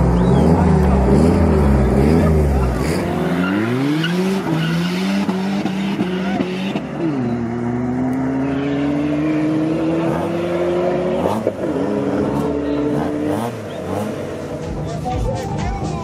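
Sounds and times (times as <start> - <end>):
cars accelerating hard: 0.0 - 15.2.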